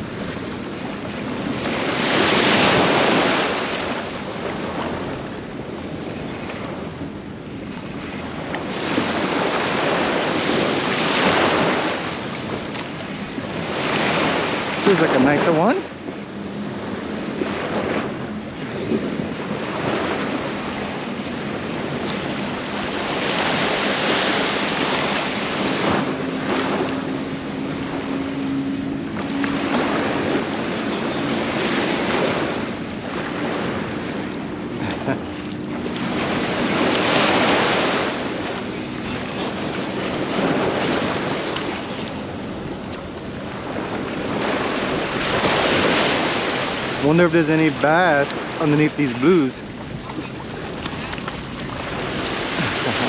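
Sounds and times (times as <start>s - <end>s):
small surf washing: 0.0s - 53.0s
wind buffeting microphone: 0.0s - 53.0s.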